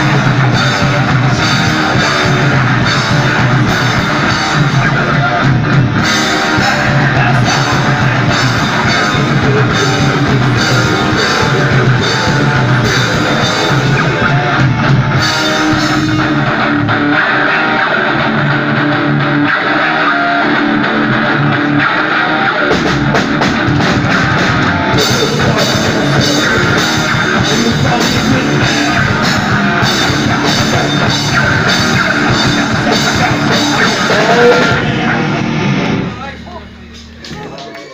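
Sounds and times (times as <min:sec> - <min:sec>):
metal band playing: 0:00.0 - 0:37.9.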